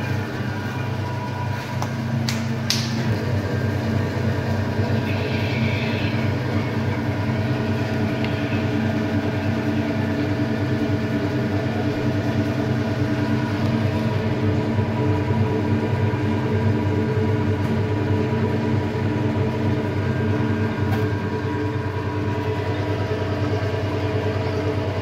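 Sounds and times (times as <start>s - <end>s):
hydraulic press pump humming: 0.0s - 25.0s.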